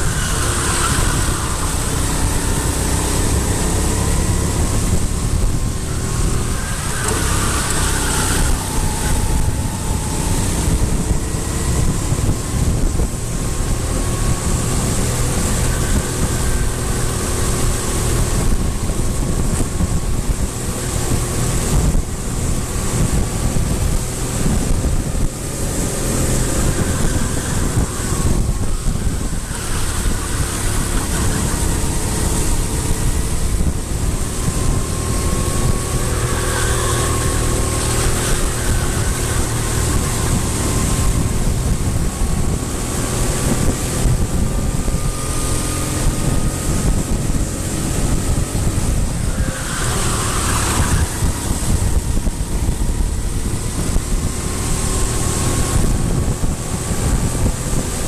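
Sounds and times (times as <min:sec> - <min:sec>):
distant vehicle engines droning: 0:00.0 - 0:58.0
wind buffeting microphone: 0:00.0 - 0:58.0.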